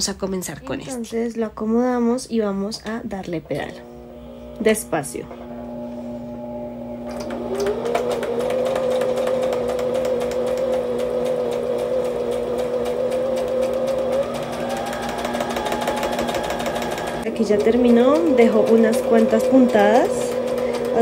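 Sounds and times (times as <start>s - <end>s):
sewing machine motor whine: 3.9s - 21.0s.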